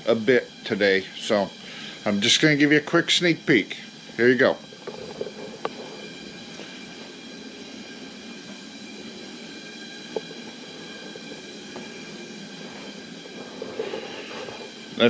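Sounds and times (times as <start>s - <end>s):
faint high steady tones: 0.0s - 15.0s
steady background hum: 0.0s - 15.0s.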